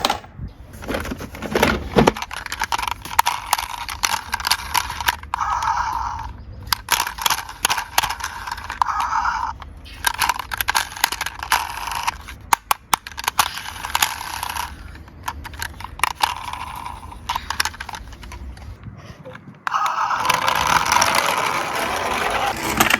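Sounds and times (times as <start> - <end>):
toy cars rolling down a slope: 0.8 - 18.8, 19.7 - 22.9.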